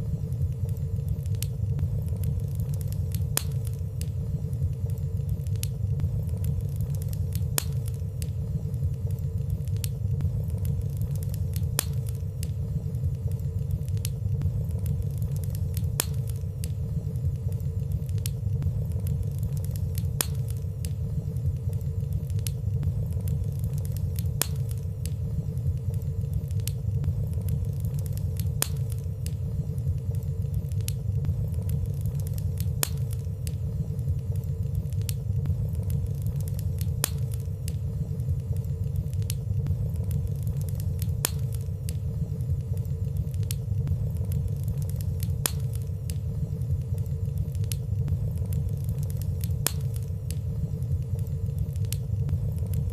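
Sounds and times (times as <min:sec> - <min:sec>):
fireplace fire crackling: 0:00.0 - 0:52.9.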